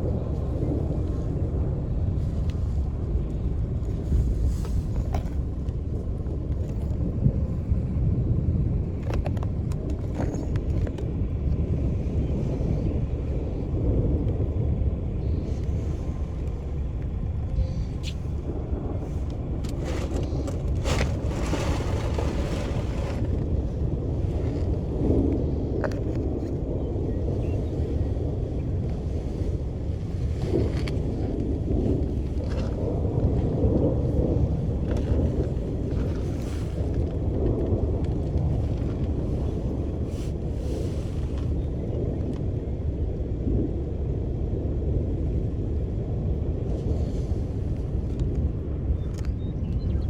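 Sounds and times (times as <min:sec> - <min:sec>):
steady low rumble: 0:00.0 - 0:50.0.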